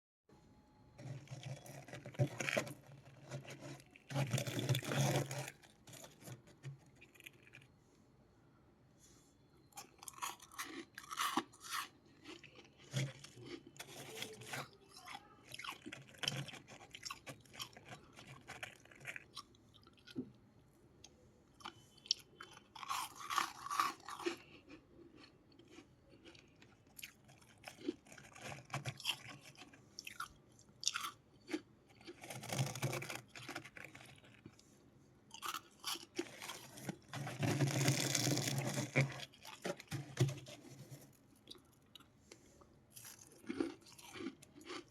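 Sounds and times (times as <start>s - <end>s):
chewing ice crunches: 1.0s - 7.7s, 9.8s - 20.3s, 21.6s - 34.6s, 35.3s - 42.1s, 42.9s - 44.9s.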